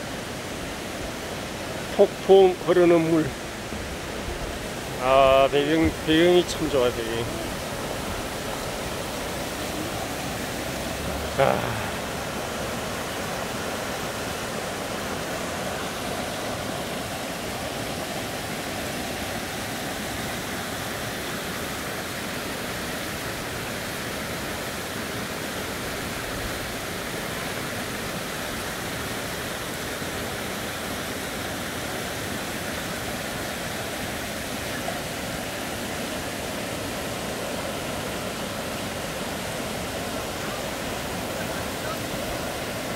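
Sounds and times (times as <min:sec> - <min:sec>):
stream flowing over rocks: 0:00.0 - 0:42.9.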